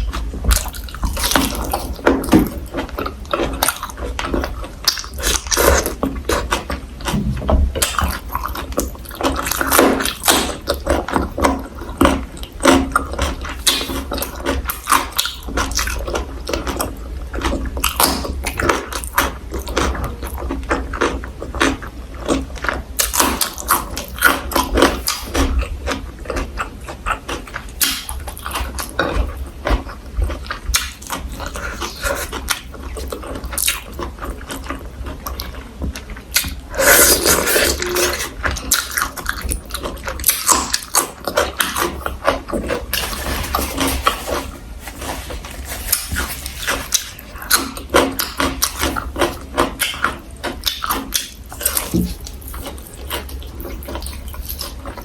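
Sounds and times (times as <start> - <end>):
wet chewing and mouth smacking: 0.0 - 55.0.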